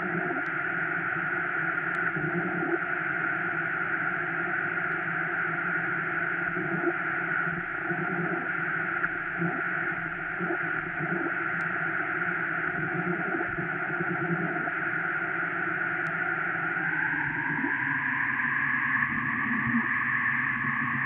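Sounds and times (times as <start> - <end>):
harsh electronic noise drone: 0.0 - 21.0.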